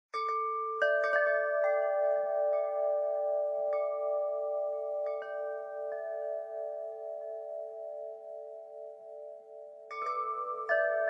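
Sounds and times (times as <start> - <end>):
wind chimes ringing: 0.2 - 11.0.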